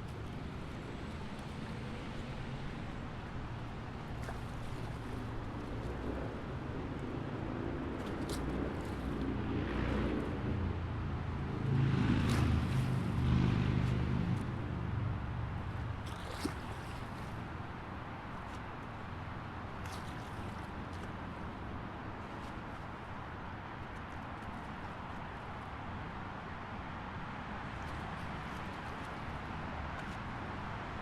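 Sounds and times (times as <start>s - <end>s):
highway traffic rumble: 0.0s - 31.0s.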